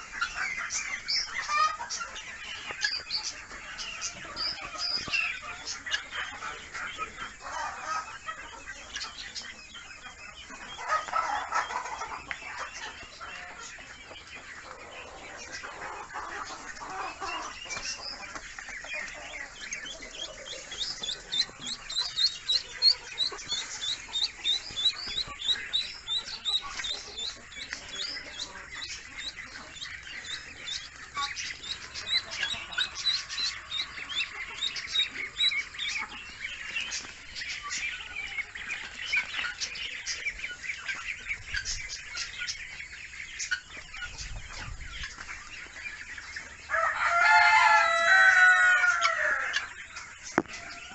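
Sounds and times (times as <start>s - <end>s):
ducklings peeping: 0.0s - 50.9s
poultry calling: 0.0s - 50.9s.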